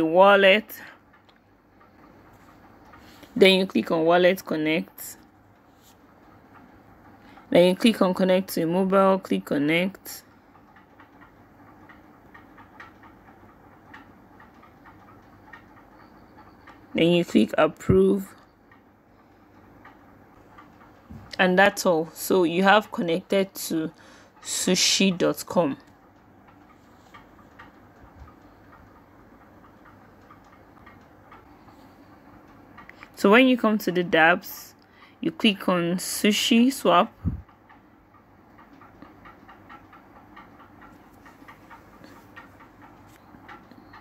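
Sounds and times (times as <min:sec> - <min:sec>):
soft irregular ticks: 0:00.0 - 0:44.0.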